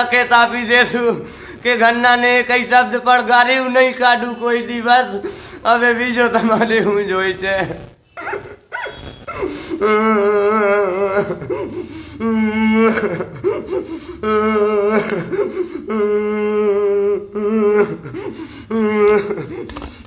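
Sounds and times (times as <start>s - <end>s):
man sobbing and wailing: 0.0s - 19.9s.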